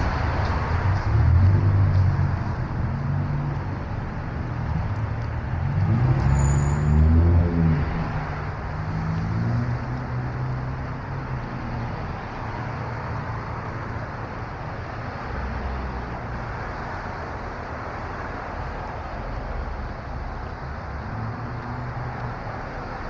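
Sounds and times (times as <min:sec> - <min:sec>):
passing vehicle engine: 0:00.0 - 0:14.2, 0:14.9 - 0:23.0
traffic rumble: 0:00.0 - 0:23.0.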